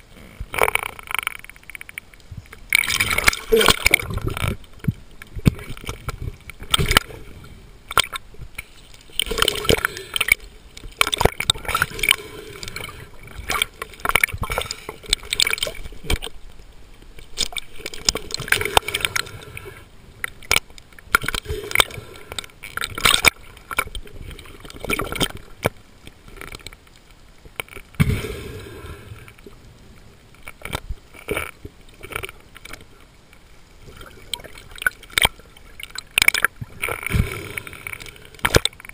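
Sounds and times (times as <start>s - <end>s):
crackles and clicks: 0.0s - 38.9s
underwater bubbling and gurgling: 0.0s - 38.9s.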